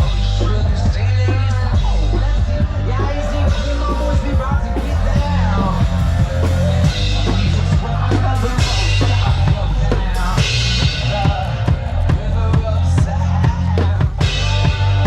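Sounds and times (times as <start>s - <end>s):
one-man band playing rock: 0.0s - 15.0s.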